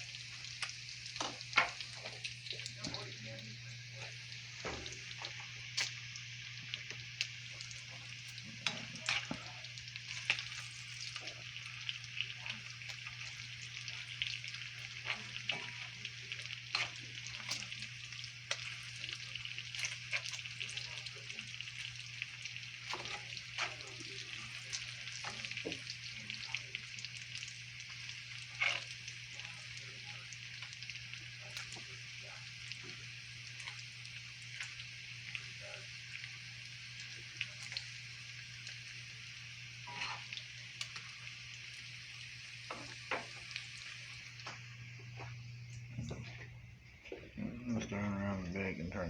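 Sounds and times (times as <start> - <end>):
food sizzling in a pan: 0.0 - 47.3.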